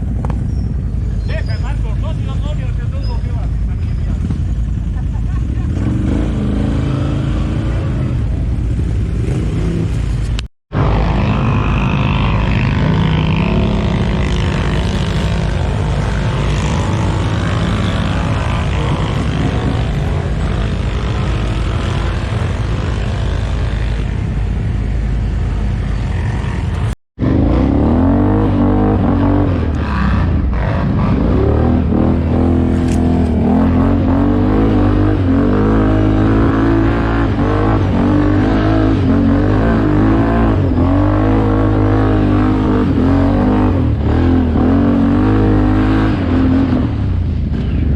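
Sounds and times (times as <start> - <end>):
quad bike engines revving: 0.0 - 47.9.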